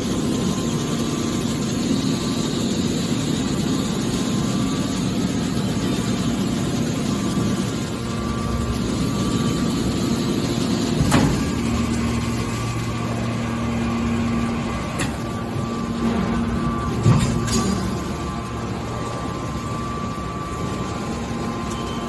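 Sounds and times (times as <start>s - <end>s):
baling press motor and pump hum: 0.0s - 22.0s.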